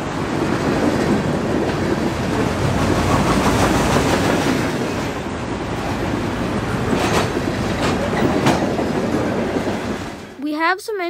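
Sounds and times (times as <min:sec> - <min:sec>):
steel wheels rumbling on rails: 0:00.0 - 0:10.4.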